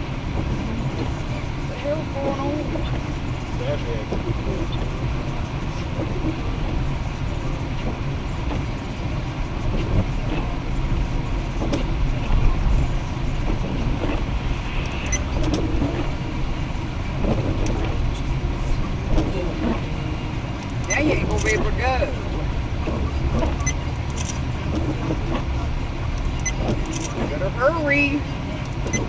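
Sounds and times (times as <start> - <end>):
car tyres and engine rumble: 0.0 - 29.0.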